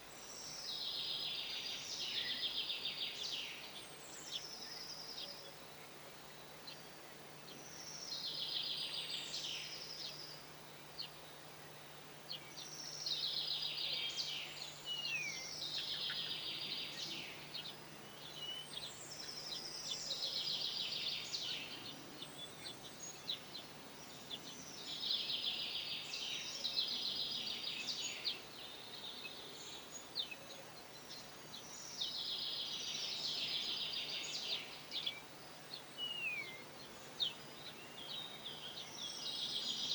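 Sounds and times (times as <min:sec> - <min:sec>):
songbird trill: 0:00.0 - 0:39.9.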